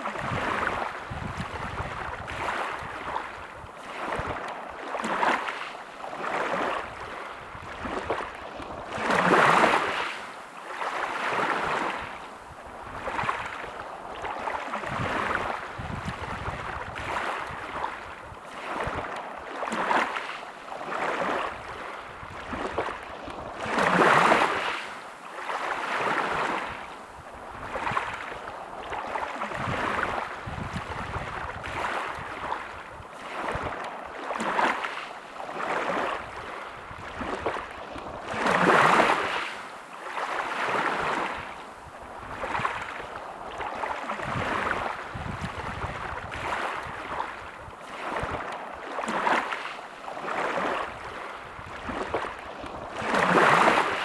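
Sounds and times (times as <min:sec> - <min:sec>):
sea waves washing ashore: 0:00.0 - 0:54.0
waves breaking: 0:00.0 - 0:54.0.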